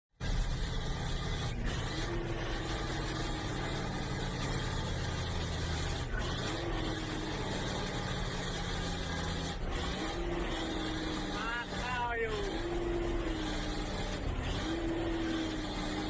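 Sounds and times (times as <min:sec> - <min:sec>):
road noise: 0:00.2 - 0:16.0
truck diesel engine running: 0:00.2 - 0:16.0.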